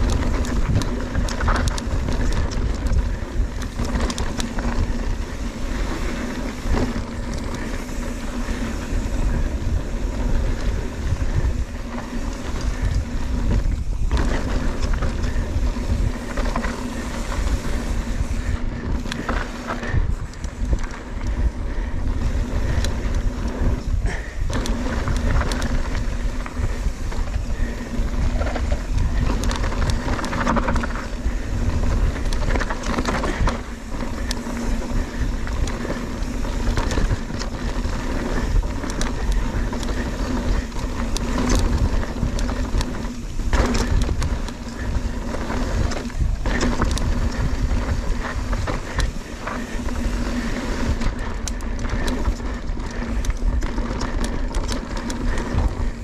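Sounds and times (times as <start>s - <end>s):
bike knocks and rattles: 0.0s - 56.0s
tyre noise on dirt: 0.0s - 56.0s
wind rumble on microphone: 0.0s - 56.0s.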